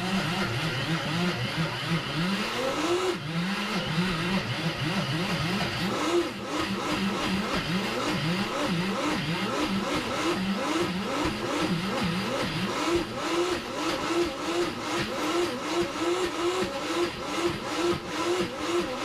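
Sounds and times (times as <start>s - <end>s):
blender motor wobbling pitch: 0.0s - 19.0s.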